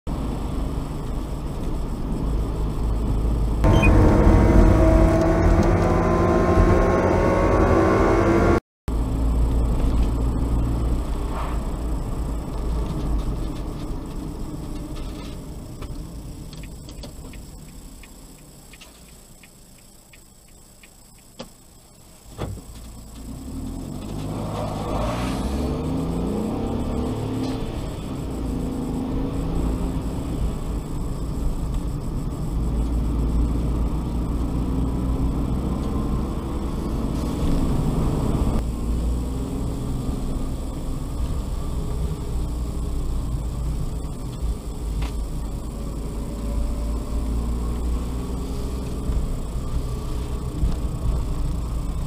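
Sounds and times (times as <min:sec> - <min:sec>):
car engine accelerating: 0:00.1 - 0:15.2, 0:22.6 - 0:52.0
road noise inside car: 0:00.1 - 0:52.0.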